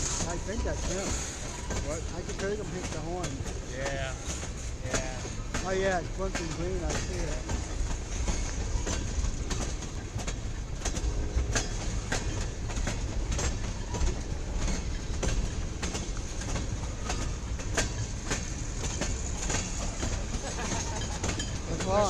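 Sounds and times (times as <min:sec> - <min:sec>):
freight train rolling by: 0:00.0 - 0:22.0
steel wheels clacking over rail joints: 0:00.0 - 0:22.0.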